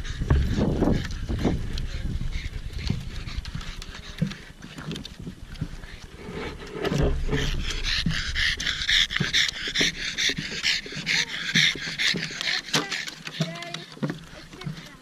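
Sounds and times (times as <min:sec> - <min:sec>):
wind rumbling on microphone: 0:00.0 - 0:12.7
dog panting: 0:00.0 - 0:15.0
footsteps on wooden boards: 0:00.0 - 0:15.0.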